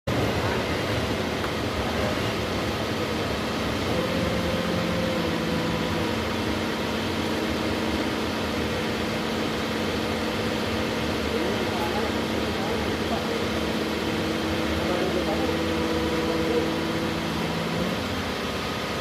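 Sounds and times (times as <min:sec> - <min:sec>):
engine humming: 0:00.1 - 0:19.0
higher humming tone: 0:01.9 - 0:19.0.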